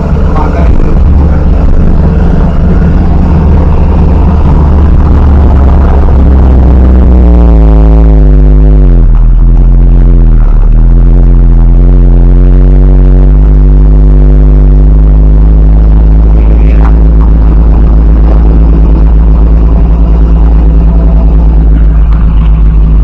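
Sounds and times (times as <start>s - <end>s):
truck diesel engine labouring: 0.0s - 23.0s.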